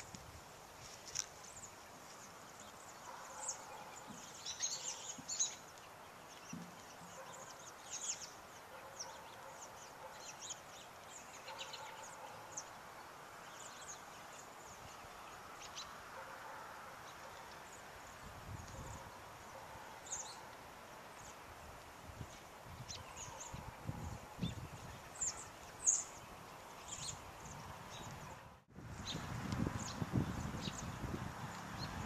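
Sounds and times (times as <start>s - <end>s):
faint background noise: 0.0s - 32.0s.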